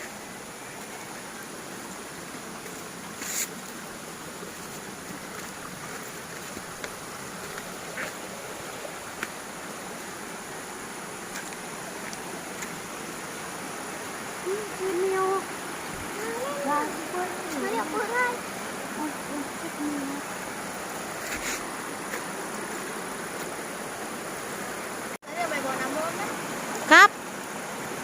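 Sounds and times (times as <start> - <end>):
rushing stream water: 0.0 - 28.0.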